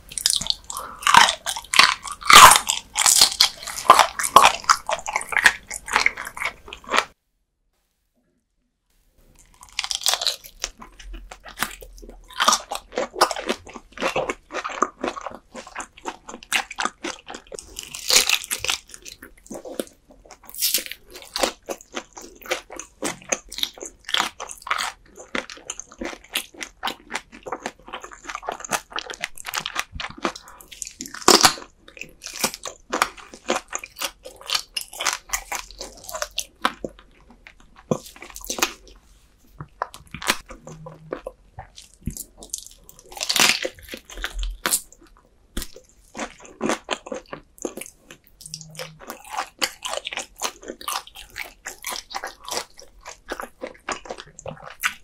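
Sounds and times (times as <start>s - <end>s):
crunchy chewing of raw fish: 0.0s - 7.2s, 9.4s - 55.0s.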